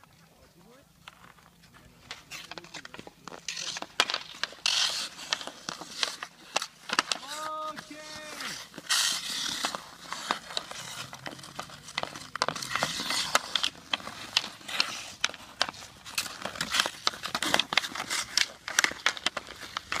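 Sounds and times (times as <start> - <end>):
hockey sticks clacking puck: 1.0 - 20.0
skate blades scraping ice: 1.0 - 20.0.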